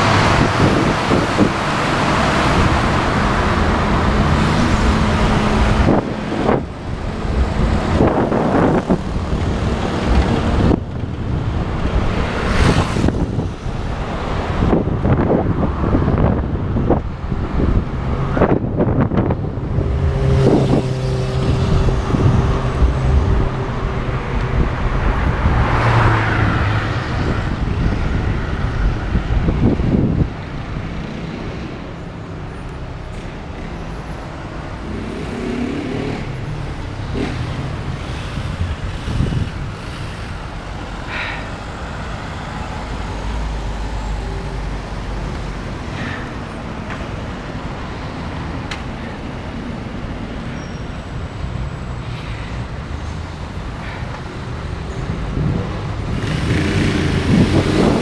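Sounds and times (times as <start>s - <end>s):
motor vehicles engine hum: 0.0s - 58.0s
traffic rumble: 0.0s - 58.0s.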